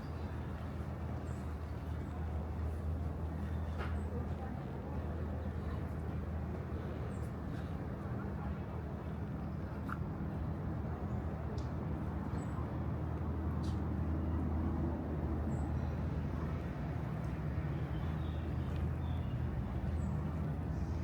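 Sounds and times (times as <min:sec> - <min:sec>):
street traffic: 0:00.1 - 0:21.0.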